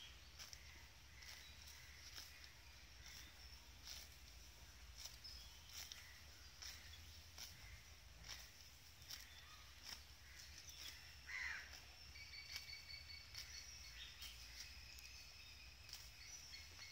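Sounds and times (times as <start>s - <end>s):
faint high insect tones: 0.0s - 16.9s
cow tearing grass: 0.1s - 16.8s.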